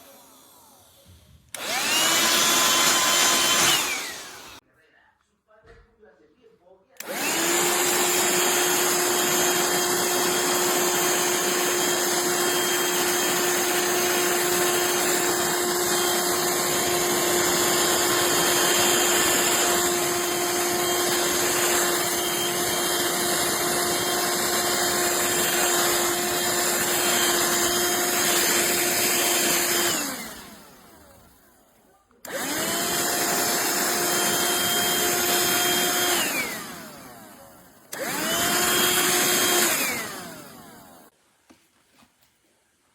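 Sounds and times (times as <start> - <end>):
handheld vacuum running: 0.0 - 4.6, 7.0 - 41.1.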